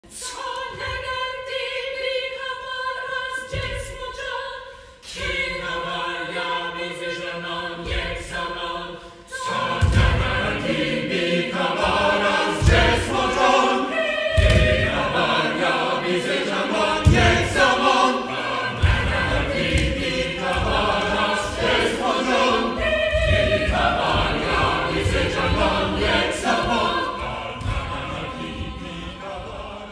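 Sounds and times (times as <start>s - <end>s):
choir singing held chords: 0.0s - 29.9s.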